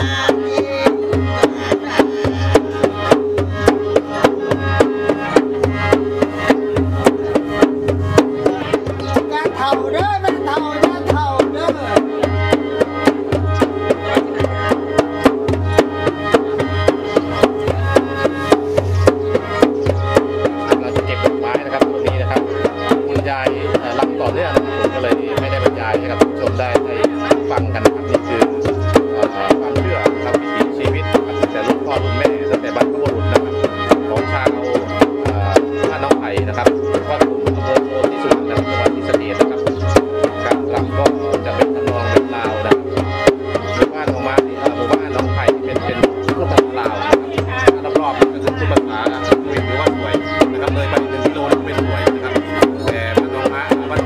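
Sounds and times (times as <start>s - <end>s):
hand drum beating: 0.0s - 54.0s
mouth organ drone and melody: 0.0s - 54.0s.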